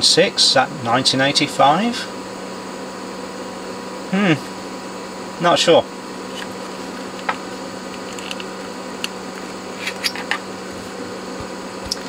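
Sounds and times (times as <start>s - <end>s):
room tone hum: 0.0s - 12.0s.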